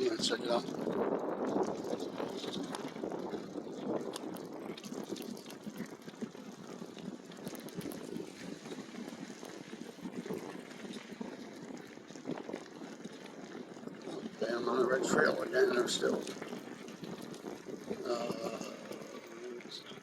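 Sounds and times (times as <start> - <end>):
bike tyres rolling on rough trail: 0.0 - 20.0.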